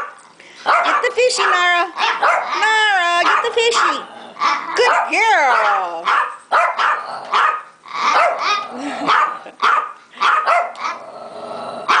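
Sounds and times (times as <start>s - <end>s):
puppy barking: 0.0s - 11.0s.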